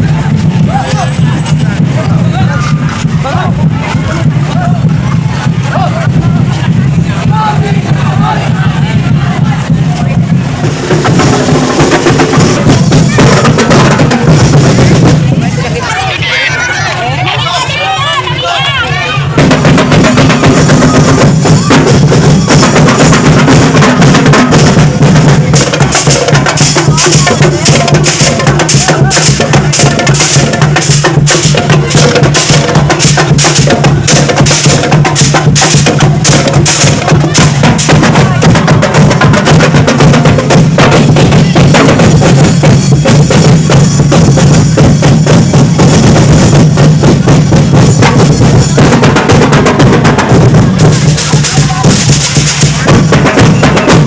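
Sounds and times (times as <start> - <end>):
fast drum beat: 0.0 - 54.0.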